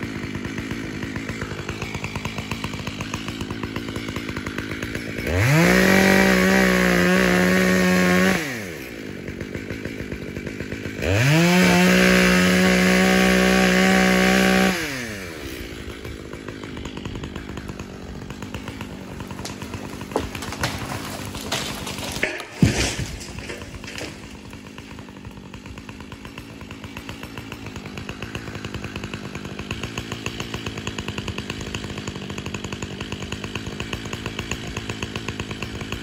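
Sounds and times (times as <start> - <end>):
chainsaw idling: 0.0 - 36.0
chainsaw revving cutting tree: 0.0 - 36.0.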